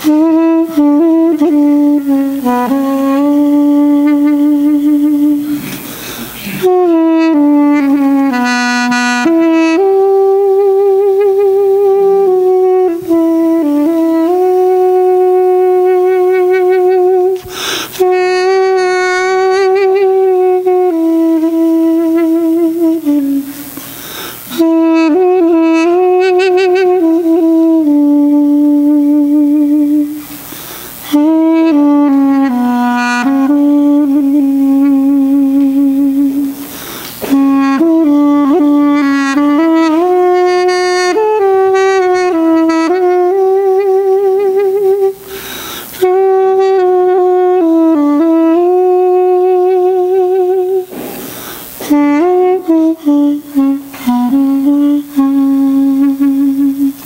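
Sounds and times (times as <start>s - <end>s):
duduk melody with trills: 0.0s - 23.7s, 24.4s - 30.2s, 31.0s - 45.2s, 45.9s - 51.1s, 51.7s - 57.0s.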